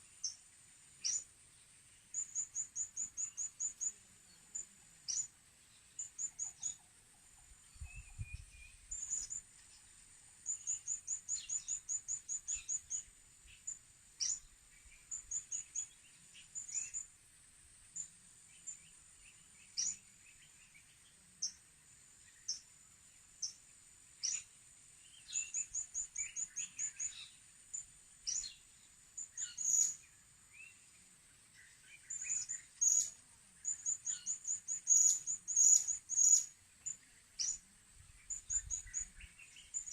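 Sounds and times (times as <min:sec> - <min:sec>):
faint high hiss: 0:00.0 - 0:39.9.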